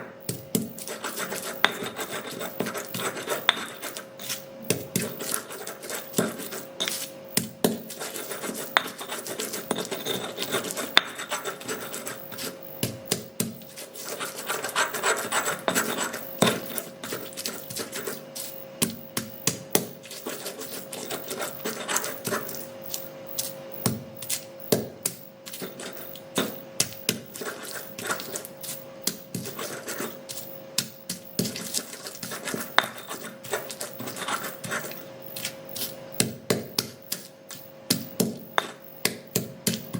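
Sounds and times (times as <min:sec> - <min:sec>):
pestle knocking and clicking: 0:00.0 - 0:17.9, 0:18.5 - 0:35.4, 0:36.2 - 0:39.9
stone rubbing on stone: 0:00.7 - 0:23.6, 0:25.4 - 0:36.0, 0:36.9 - 0:39.2.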